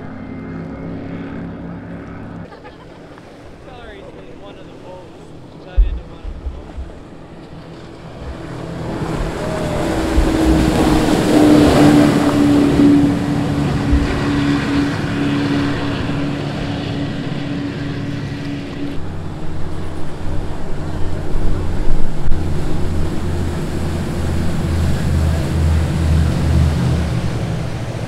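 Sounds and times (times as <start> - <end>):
hull rushing on water: 0.0 - 28.0
powerboat engine drone: 0.0 - 28.0.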